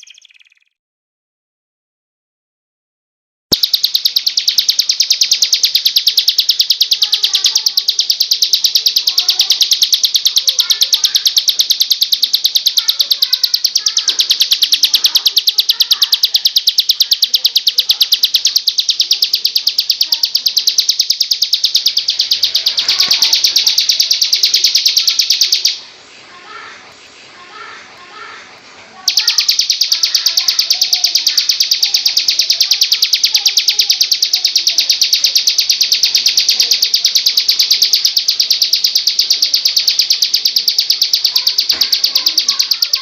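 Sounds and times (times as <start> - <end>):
songbird rapid trill: 0.0 - 0.7, 3.5 - 25.9, 29.0 - 43.0
faint bird chirps: 0.0 - 0.8, 3.5 - 26.8, 29.0 - 43.0.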